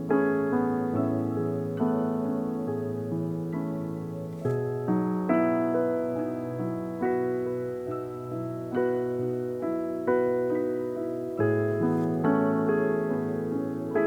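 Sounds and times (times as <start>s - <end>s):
calm solo piano music: 0.0s - 14.0s.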